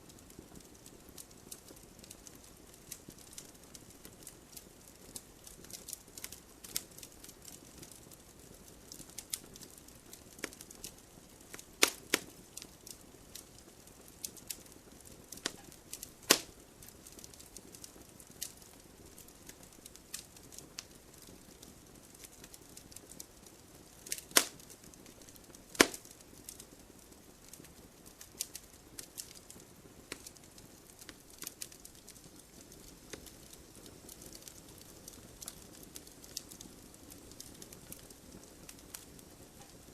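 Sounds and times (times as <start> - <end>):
faint hiss: 0.0 - 39.9
firewood crackling in stove: 0.0 - 39.9.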